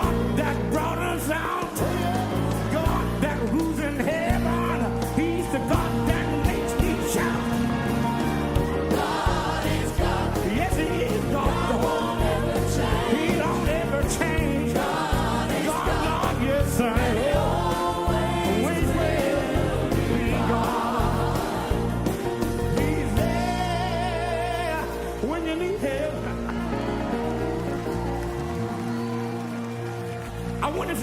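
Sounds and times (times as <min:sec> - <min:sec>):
group of voices singing: 0:00.0 - 0:27.2
band playing gospel music: 0:00.0 - 0:31.0.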